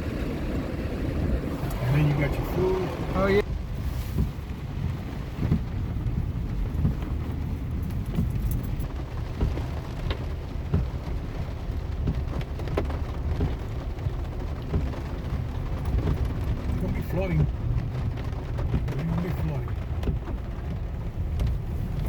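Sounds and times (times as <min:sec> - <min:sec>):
heavy rain on car: 0:00.0 - 0:22.0
road and engine rumble: 0:00.0 - 0:22.0
raindrops tapping on glass: 0:03.4 - 0:22.0.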